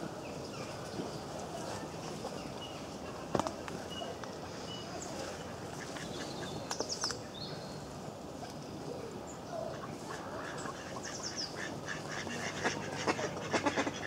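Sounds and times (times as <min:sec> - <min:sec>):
background noise: 0:00.0 - 0:14.0.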